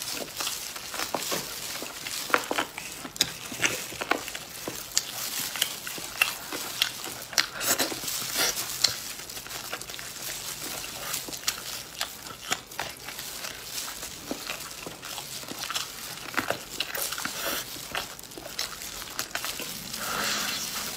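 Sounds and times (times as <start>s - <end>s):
plastic gloves crinkling: 0.0s - 20.9s.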